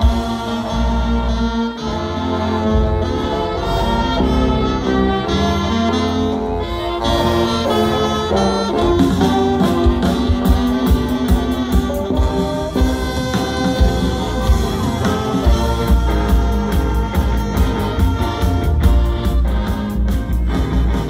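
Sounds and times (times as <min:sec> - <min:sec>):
funk big band playing: 0:00.0 - 0:21.0
horn section: 0:00.0 - 0:21.0
strong bass: 0:00.0 - 0:21.0.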